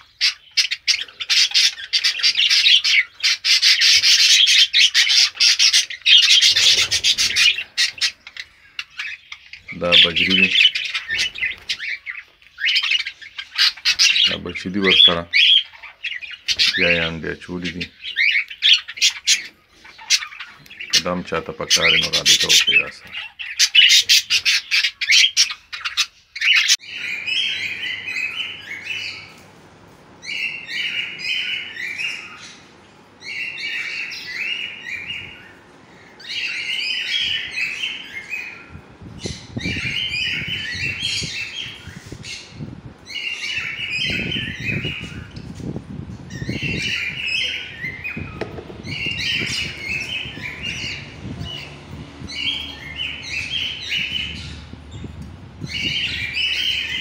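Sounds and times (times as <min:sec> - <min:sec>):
high bird chirps: 0:00.0 - 0:21.2, 0:21.8 - 0:29.4, 0:30.2 - 0:57.0
birds squawking: 0:00.0 - 0:57.0.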